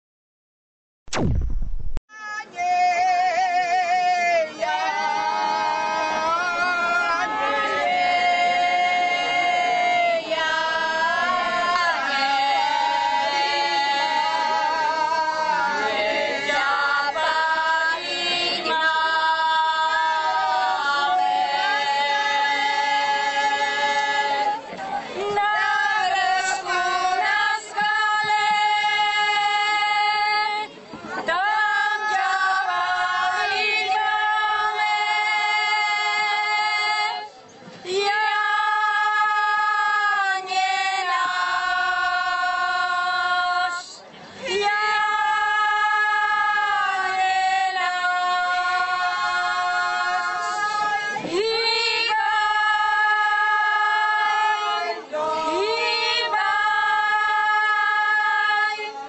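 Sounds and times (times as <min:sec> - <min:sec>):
women singing together: 0:02.9 - 0:59.0.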